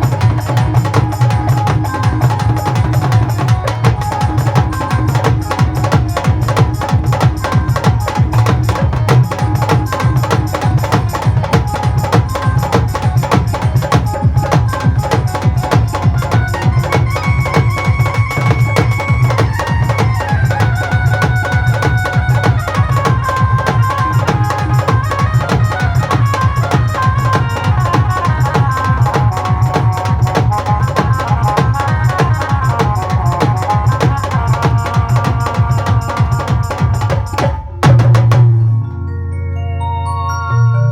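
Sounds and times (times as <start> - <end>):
fast even percussion: 0.0 - 38.9
melody instrument holding long notes: 0.0 - 40.9.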